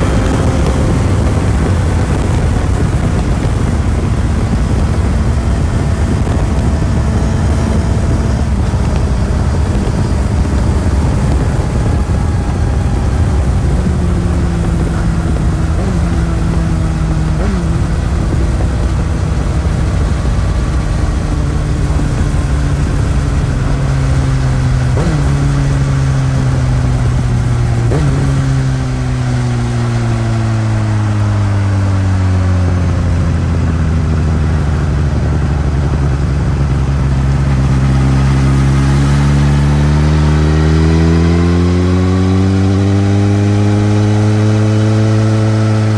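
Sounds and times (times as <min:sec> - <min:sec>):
motorcycle engine revving: 0:00.0 - 0:45.9
wind rumble: 0:00.0 - 0:45.9.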